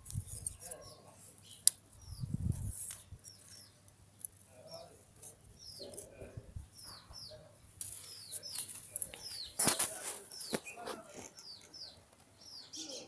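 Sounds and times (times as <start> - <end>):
small bird chirping: 0.1 - 13.0.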